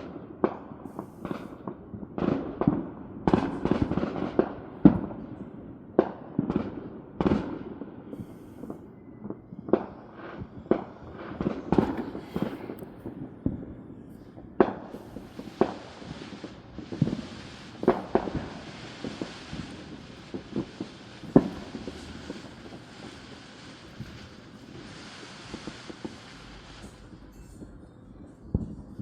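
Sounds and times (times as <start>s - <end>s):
fireworks and firecrackers popping: 0.0s - 29.0s.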